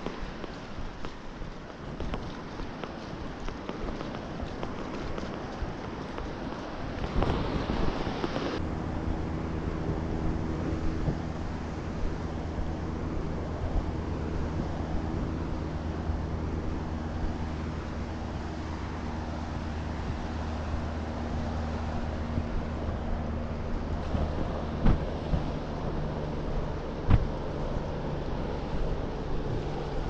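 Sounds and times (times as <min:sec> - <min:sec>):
small surf washing on beach: 0:00.0 - 0:30.0
wind on microphone: 0:00.0 - 0:30.0.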